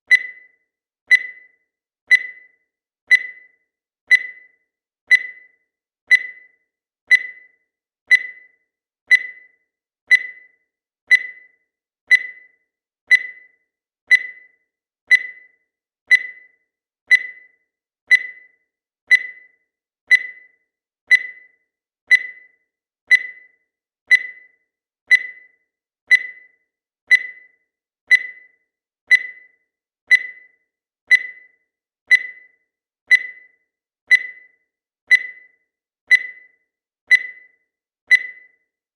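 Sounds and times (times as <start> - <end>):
digital timer beeping: 0.0 - 38.9.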